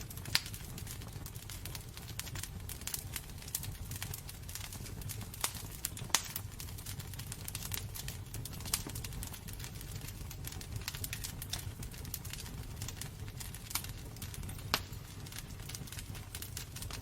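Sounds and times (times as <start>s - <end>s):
fire crackling: 0.0s - 17.0s
fire rumbling: 0.0s - 17.0s.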